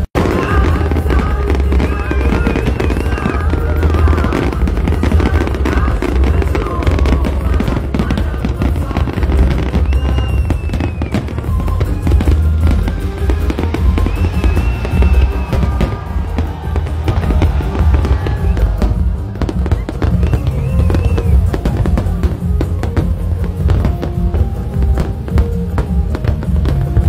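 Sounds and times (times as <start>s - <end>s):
crowd voices: 0.0s - 27.0s
fireworks crackling bursts: 0.0s - 27.0s
music: 0.0s - 27.0s.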